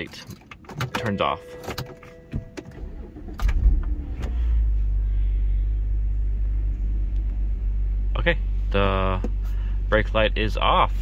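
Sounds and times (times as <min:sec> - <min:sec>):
car engine starting and idling: 0:00.0 - 0:11.0.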